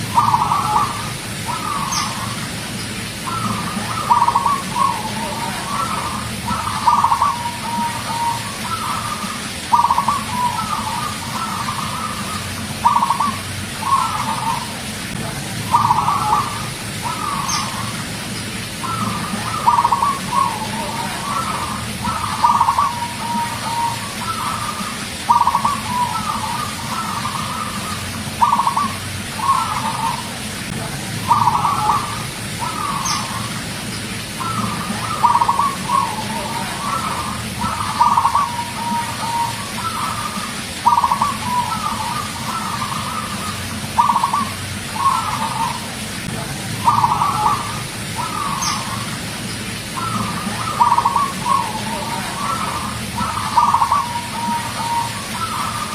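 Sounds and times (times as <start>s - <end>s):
dove cooing: 0.0s - 55.9s
low background hum: 0.0s - 55.9s.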